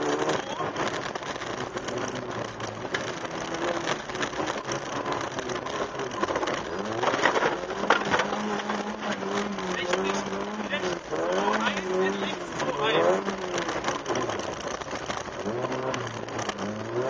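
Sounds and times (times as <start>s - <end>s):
rally car engine running hard: 0.0s - 17.0s
road noise: 0.0s - 17.0s
sharp knocks and rattles: 0.0s - 17.0s.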